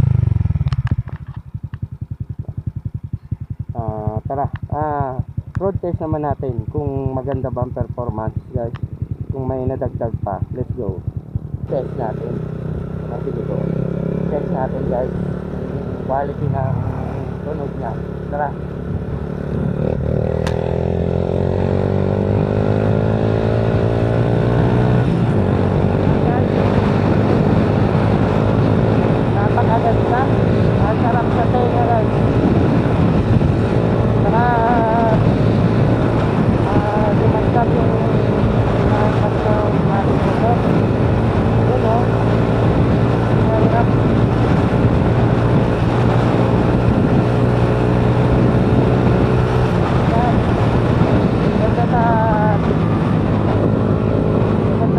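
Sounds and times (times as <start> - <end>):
motorcycle accelerating: 0.0 - 54.9.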